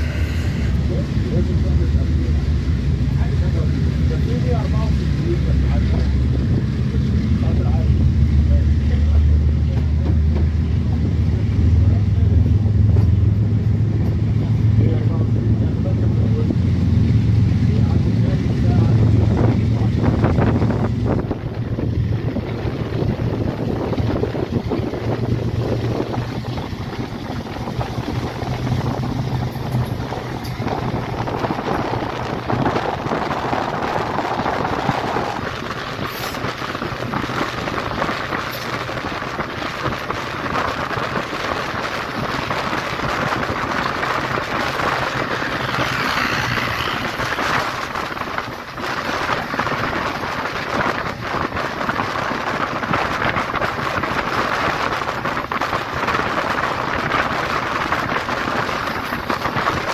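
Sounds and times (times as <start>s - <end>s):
low hum: 0.0s - 51.2s
train wheels rumbling on track: 0.0s - 59.9s
wind rushing on microphone: 0.0s - 59.9s.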